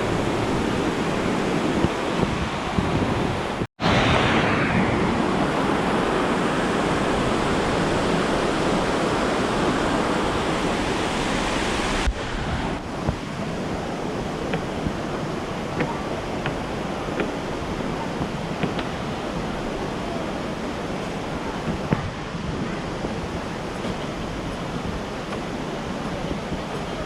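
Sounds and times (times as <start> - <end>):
river water flowing over rocks: 0.0 - 4.2, 5.1 - 27.0.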